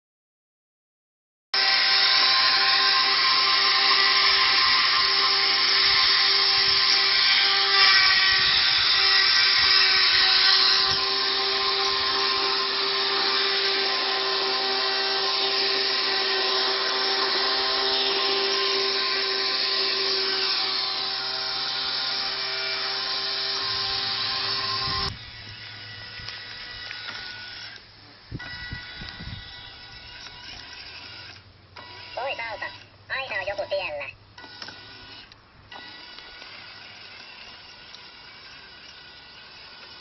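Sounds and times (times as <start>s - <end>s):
electric motors whining: 1.6s - 40.0s.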